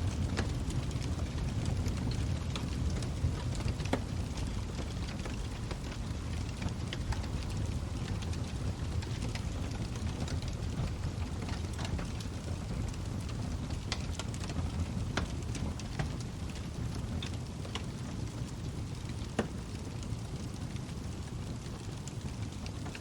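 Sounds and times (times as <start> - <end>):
log fire crackling and popping: 0.0 - 23.0.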